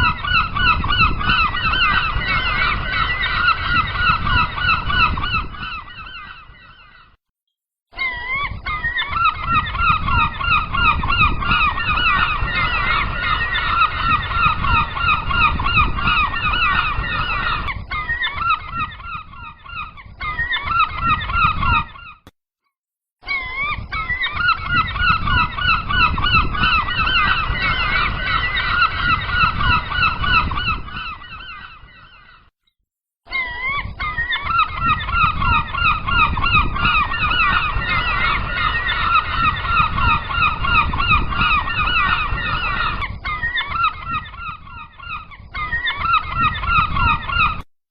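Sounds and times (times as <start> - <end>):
flock of gulls calling: 0.0 - 7.2, 7.9 - 22.2, 23.2 - 32.5, 33.3 - 47.7.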